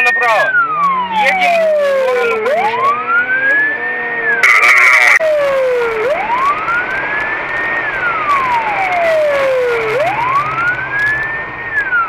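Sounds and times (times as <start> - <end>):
moving car noise: 0.0 - 12.0
police siren wailing: 0.0 - 12.0.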